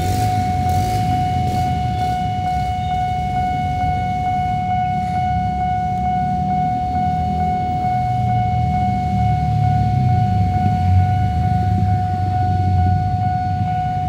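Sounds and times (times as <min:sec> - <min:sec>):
electronic warning tone: 0:00.0 - 0:14.0.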